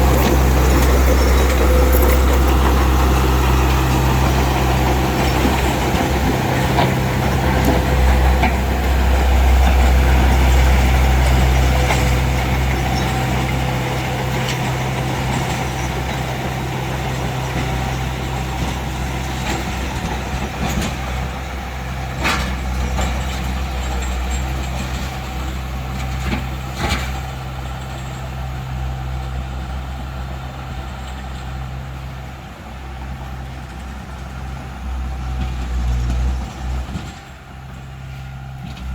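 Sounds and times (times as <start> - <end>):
diesel construction machine running: 0.0 - 38.9.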